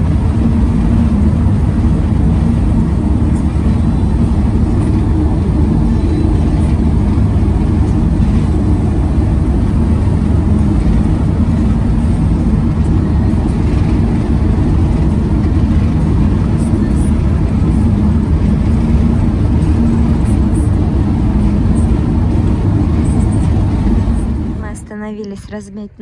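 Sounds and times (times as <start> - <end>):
campervan engine and road noise: 0.0 - 26.0.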